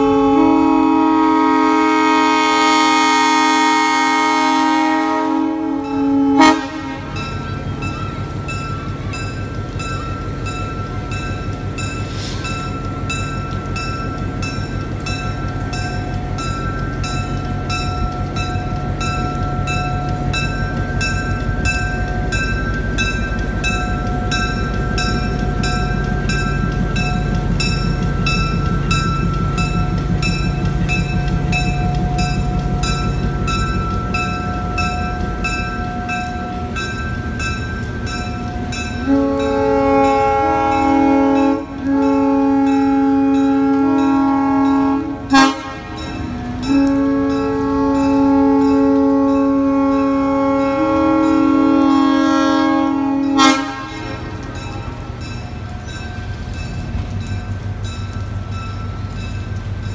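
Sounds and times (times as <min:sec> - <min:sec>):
locomotive bell ringing: 0:00.0 - 0:59.9
train rumbling past: 0:00.0 - 0:59.9.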